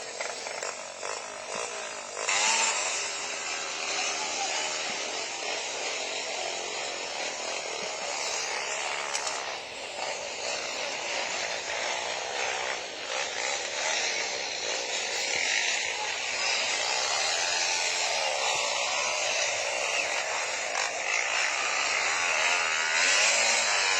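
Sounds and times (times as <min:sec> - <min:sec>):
racing motorcycle engines revving: 0:00.0 - 0:23.9.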